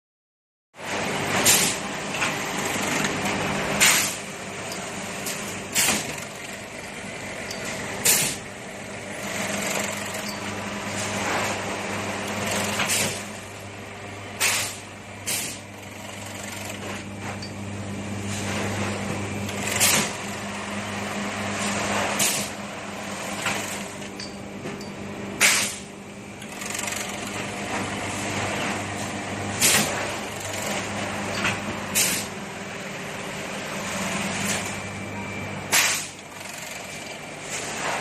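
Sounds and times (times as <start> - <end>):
machinery humming: 0.8 - 38.0.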